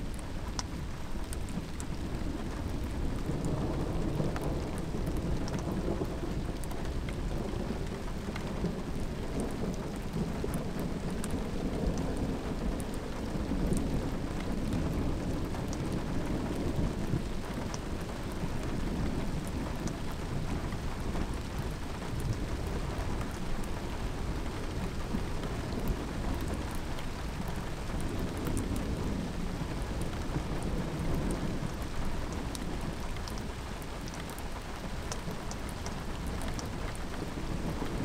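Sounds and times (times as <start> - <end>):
raindrops ticking: 0.1 - 38.0.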